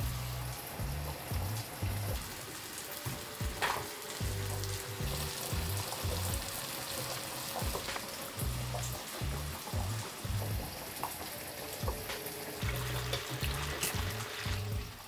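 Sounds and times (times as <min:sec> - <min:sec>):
background music with bass line: 0:00.0 - 0:02.4, 0:03.0 - 0:11.0, 0:11.8 - 0:15.0
steady hiss: 0:00.0 - 0:15.0.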